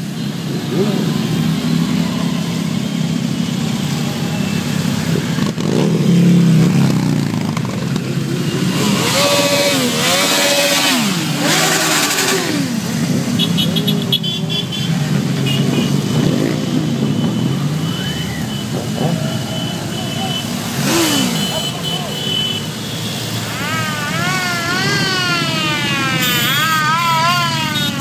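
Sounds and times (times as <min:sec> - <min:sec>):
motorcycle engines revving: 0:00.0 - 0:28.0
motorcycles riding past: 0:00.0 - 0:28.0.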